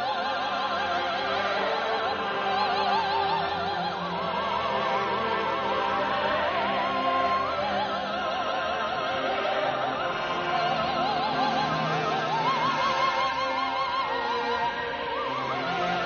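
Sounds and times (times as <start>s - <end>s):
woman singing operatic soprano: 0.0s - 16.0s.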